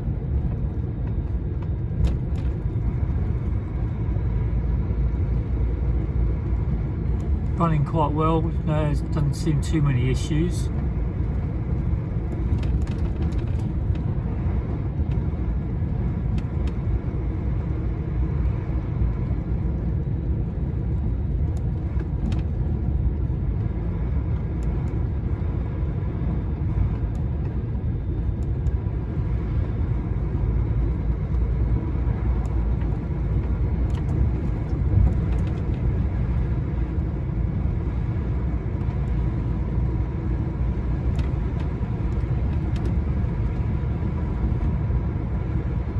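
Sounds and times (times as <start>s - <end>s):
lorry engine and tyre rumble: 0.0s - 45.9s.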